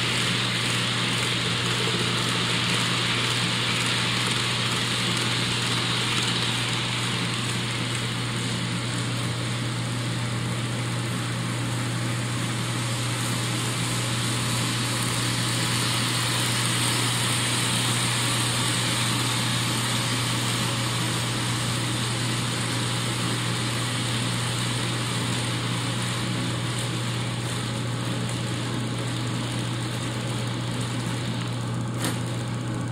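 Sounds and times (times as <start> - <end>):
model train wheels rolling on rail: 0.0 - 32.9.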